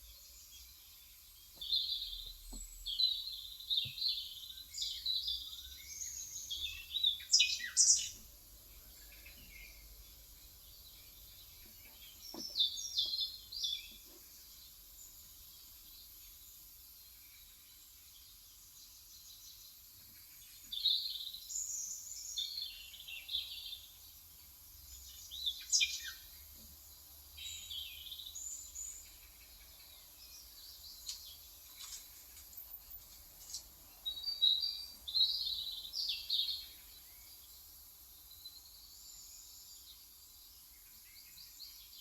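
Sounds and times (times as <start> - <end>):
faint steady hiss: 0.0 - 42.0
small birds chirping: 0.0 - 42.0.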